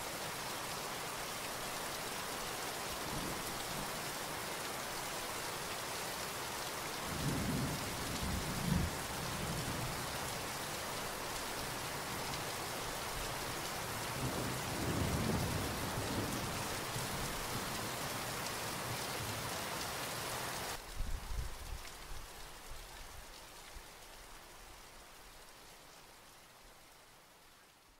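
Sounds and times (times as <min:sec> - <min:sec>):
steady rain: 0:00.0 - 0:27.9.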